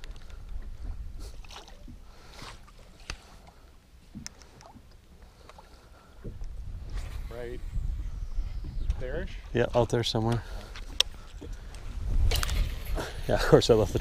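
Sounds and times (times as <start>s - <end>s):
water lapping around hull: 0.0s - 12.2s.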